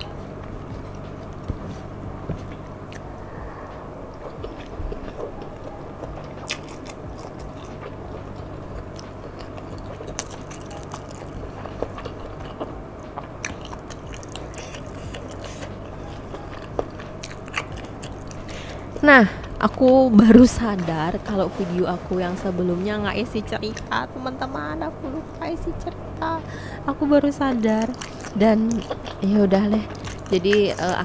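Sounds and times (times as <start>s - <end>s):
chewing and mouth sounds: 0.0s - 25.2s, 27.2s - 31.0s
steady low hum: 0.0s - 31.0s.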